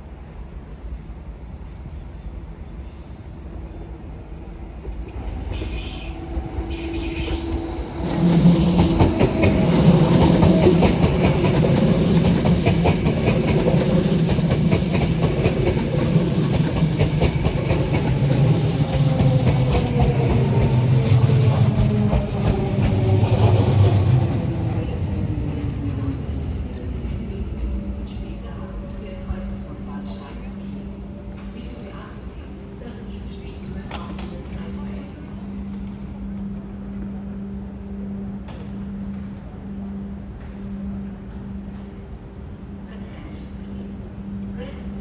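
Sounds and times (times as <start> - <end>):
train rail rumble and wheel clatter: 0.0 - 45.0.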